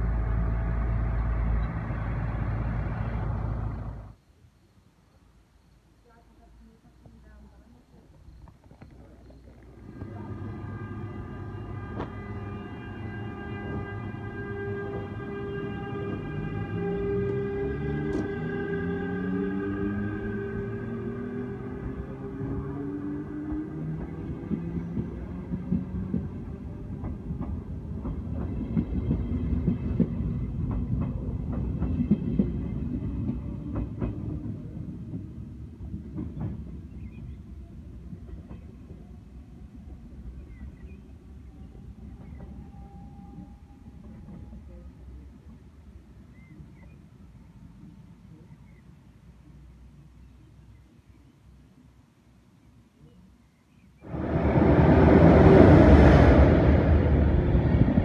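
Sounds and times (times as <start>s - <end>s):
electric locomotive whine and rumble: 0.0s - 52.9s, 53.6s - 58.0s.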